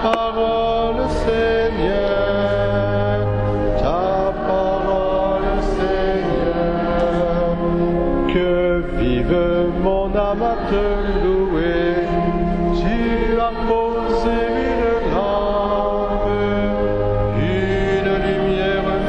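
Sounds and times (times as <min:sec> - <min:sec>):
voices singing a hymn: 0:00.0 - 0:19.0.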